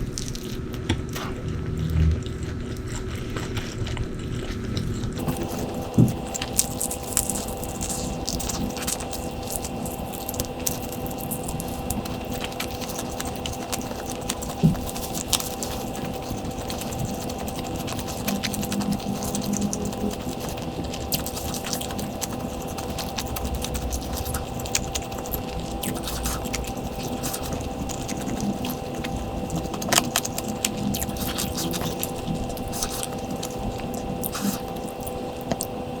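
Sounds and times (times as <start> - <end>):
chewing with clicks and scrapes: 0.0 - 36.0
steady electrical hum: 0.0 - 36.0.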